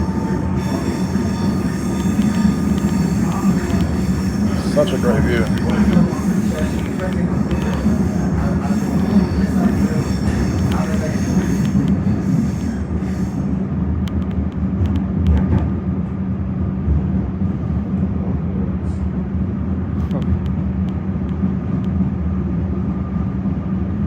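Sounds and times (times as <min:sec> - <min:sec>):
train wheels and motors rumbling: 0:00.0 - 0:24.0.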